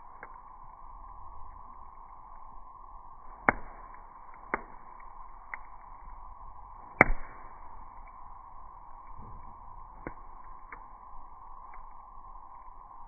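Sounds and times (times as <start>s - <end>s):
bonfire crackling and popping: 0.0s - 13.0s
faint steady hiss: 0.0s - 13.0s.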